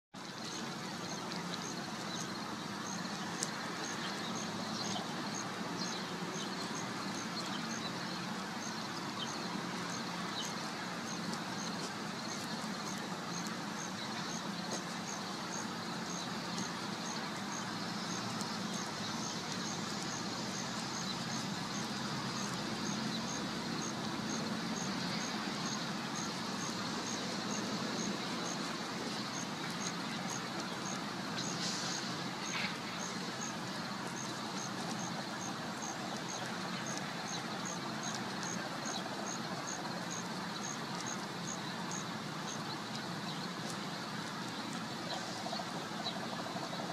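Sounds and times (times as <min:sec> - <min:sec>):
goose feeding on grass: 0:00.4 - 0:46.9.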